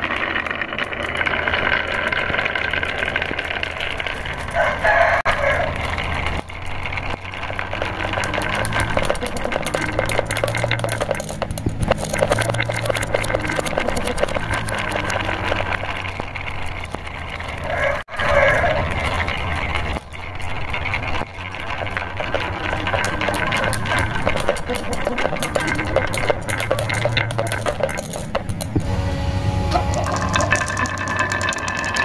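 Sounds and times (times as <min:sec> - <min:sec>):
marbles clicking on wooden rail: 0:00.0 - 0:28.9, 0:29.7 - 0:32.0
low rolling rumble: 0:00.0 - 0:32.0.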